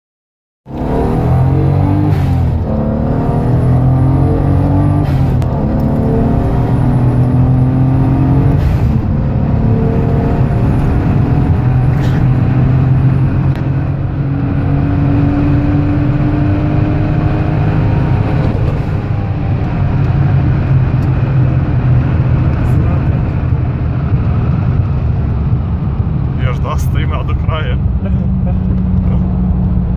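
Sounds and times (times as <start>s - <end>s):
car engine accelerating: 0.7s - 29.9s.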